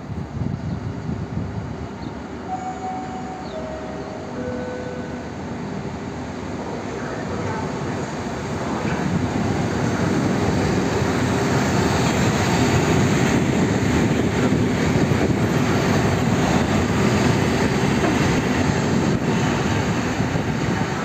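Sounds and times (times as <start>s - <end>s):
diesel locomotives engines droning: 0.0s - 21.0s.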